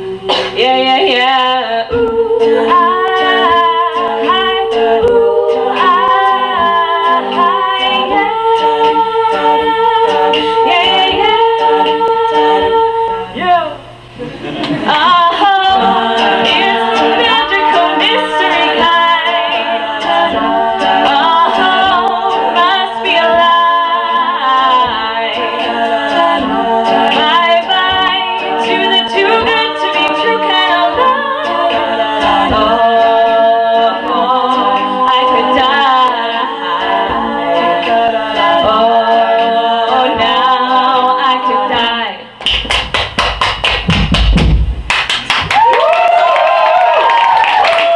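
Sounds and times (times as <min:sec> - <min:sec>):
women's a cappella group singing: 0:00.0 - 0:13.4, 0:14.5 - 0:42.4.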